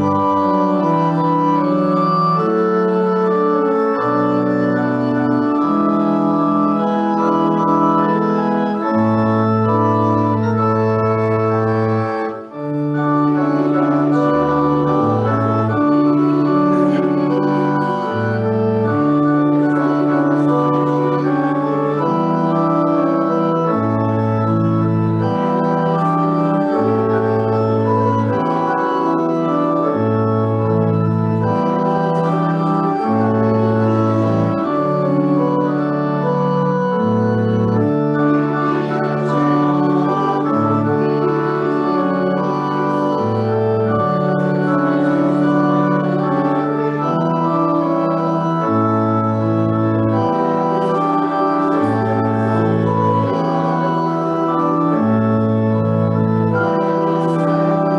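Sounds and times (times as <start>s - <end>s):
organ playing held chords: 0.0s - 57.9s.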